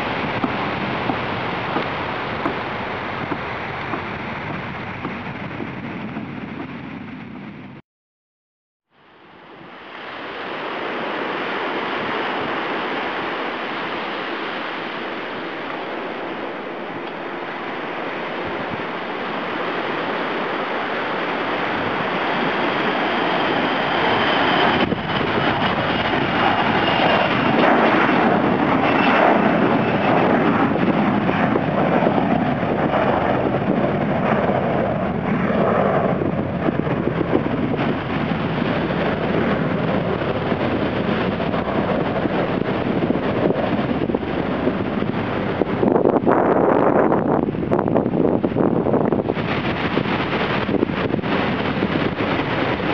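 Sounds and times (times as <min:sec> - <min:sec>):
jet engine noise: 0:00.0 - 0:07.8, 0:08.9 - 0:52.9
wind buffeting microphone: 0:00.0 - 0:07.8, 0:09.6 - 0:52.9.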